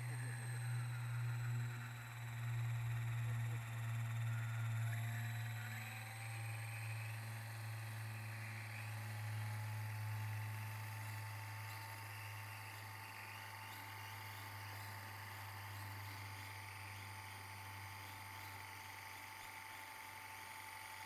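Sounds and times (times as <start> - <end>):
model helicopter motor whine: 0.0 - 21.0.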